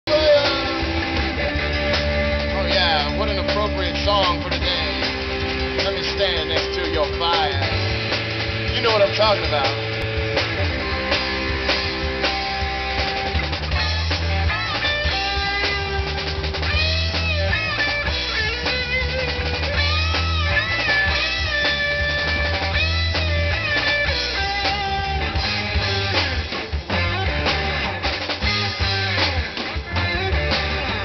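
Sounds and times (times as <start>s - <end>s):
drum kit: 0.0s - 31.0s
electric guitar lead: 0.0s - 31.0s
heavy bass: 0.0s - 31.0s.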